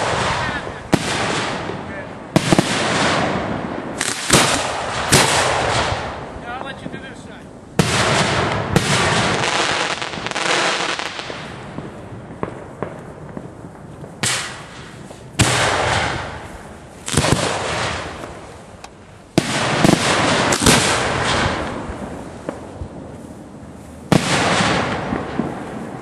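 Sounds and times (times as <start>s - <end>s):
fireworks launching reports: 0.0s - 26.0s.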